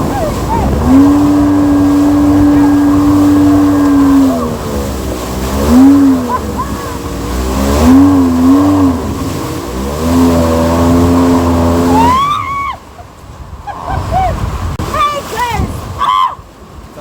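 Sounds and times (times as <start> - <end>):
jet ski engine revving: 0.0 - 16.0.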